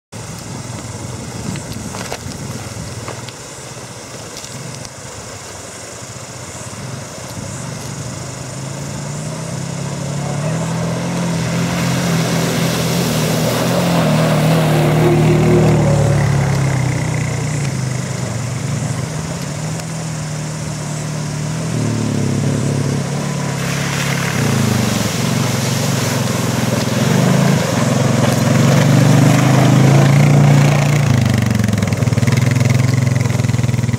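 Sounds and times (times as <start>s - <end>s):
quad bike engines: 0.2s - 33.9s.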